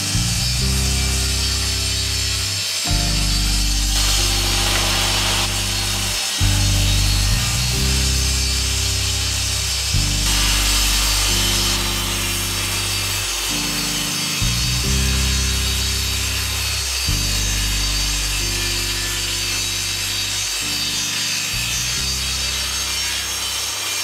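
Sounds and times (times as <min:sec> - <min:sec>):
background music: 0:00.0 - 0:24.0
table saw cutting: 0:00.0 - 0:24.0.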